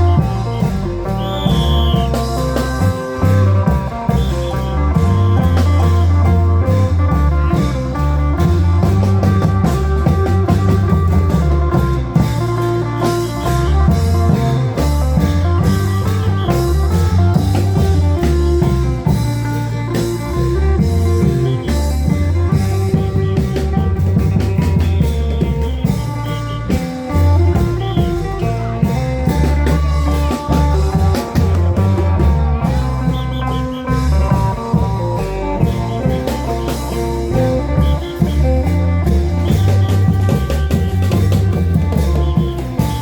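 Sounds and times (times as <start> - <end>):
drum strokes: 0.0 - 43.0
long-drum band playing: 0.0 - 43.0.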